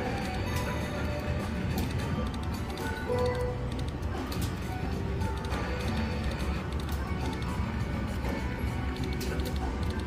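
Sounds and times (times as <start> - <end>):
slot machine music and chimes: 0.0 - 10.0.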